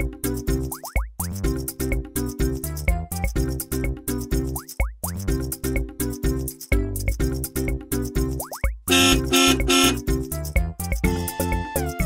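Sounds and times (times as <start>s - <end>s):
playful children's music: 0.0s - 12.0s.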